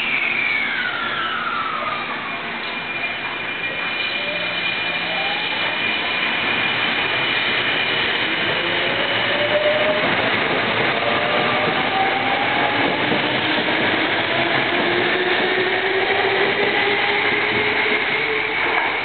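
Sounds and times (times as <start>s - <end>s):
steady high tone: 0.0s - 19.0s
train rolling noise: 0.0s - 19.0s.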